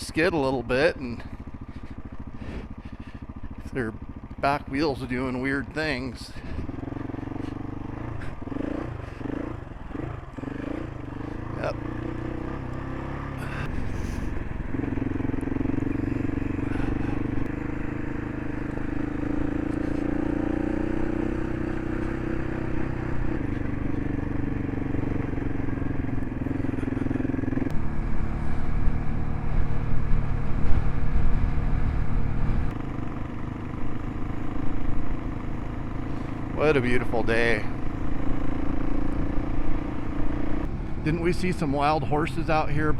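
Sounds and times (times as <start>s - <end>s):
single-cylinder engine running: 0.0s - 42.9s.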